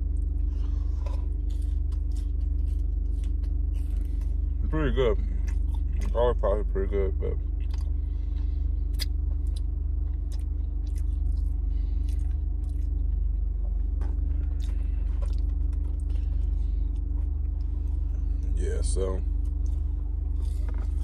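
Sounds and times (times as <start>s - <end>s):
person chewing: 0.0s - 4.6s, 5.2s - 6.2s, 7.4s - 18.6s, 19.3s - 21.0s
low hum in car cabin: 0.0s - 21.0s.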